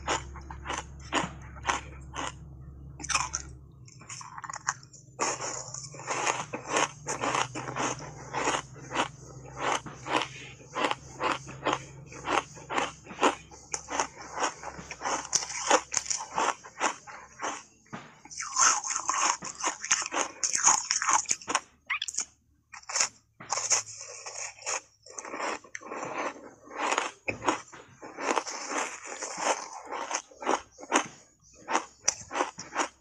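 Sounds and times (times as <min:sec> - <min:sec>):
ice being chewed with crunches: 0:00.0 - 0:33.0.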